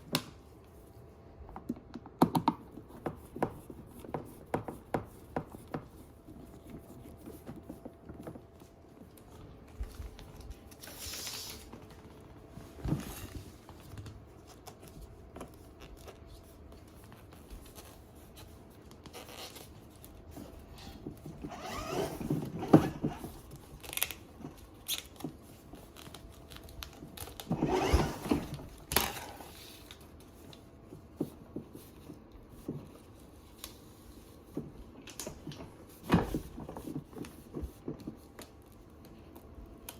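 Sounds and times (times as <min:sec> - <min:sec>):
rustling and scraping: 0:02.8 - 0:39.7.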